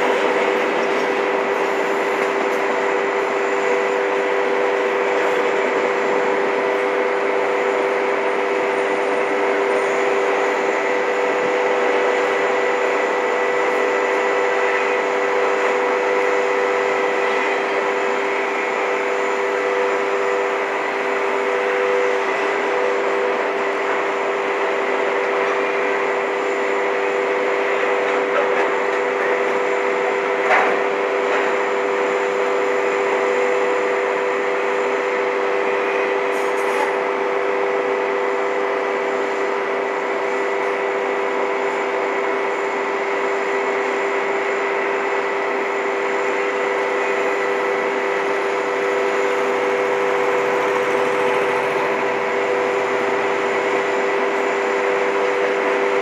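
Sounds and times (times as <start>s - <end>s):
freight train rolling rumble: 0.0s - 56.0s
steady whining tones: 0.0s - 56.0s.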